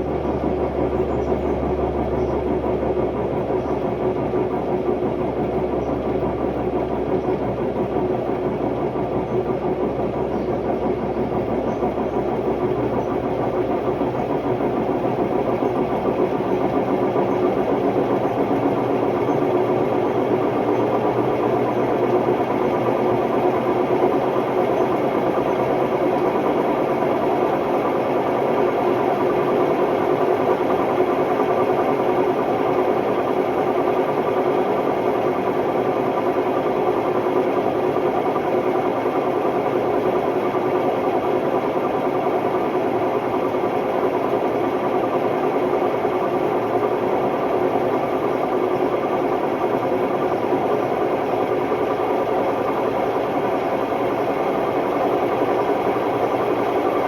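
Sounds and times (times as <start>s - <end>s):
washing machine spinning noisily: 0.0s - 57.0s.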